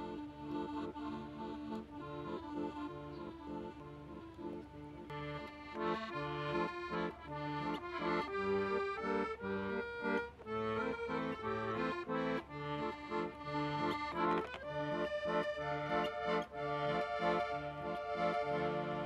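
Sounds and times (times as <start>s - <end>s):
accordion playing a tune: 0.0s - 19.0s.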